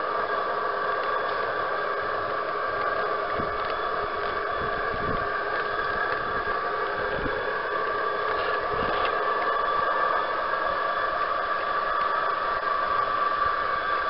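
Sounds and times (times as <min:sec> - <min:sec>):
constant hum: 0:00.0 - 0:14.0
model train motor whine: 0:00.0 - 0:14.0.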